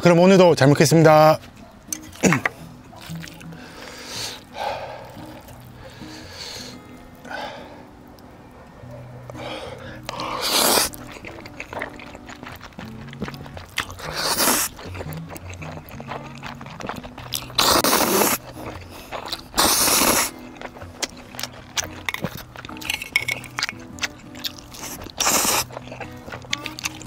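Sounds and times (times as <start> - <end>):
background music: 0.0 - 27.0
chewing: 1.4 - 27.0
noodles slurped: 2.0 - 6.9, 9.7 - 27.0.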